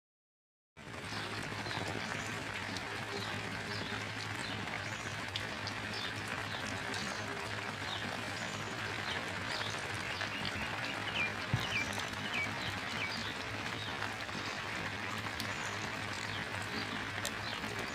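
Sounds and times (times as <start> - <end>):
steady rain falling: 0.8 - 17.9.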